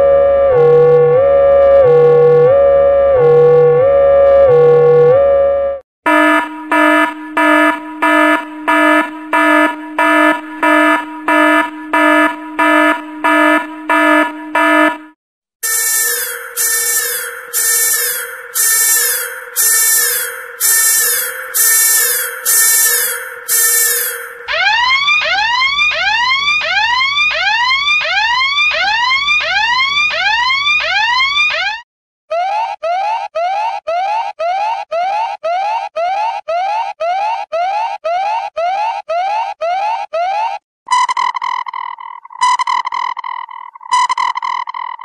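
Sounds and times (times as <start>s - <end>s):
electronic alarm pulsing: 0.0s - 31.8s, 32.4s - 45.0s.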